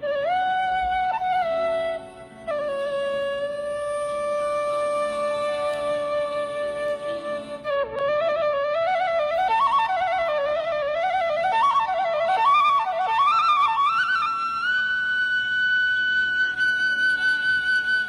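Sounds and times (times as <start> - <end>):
solo flute melody: 0.0 - 18.0.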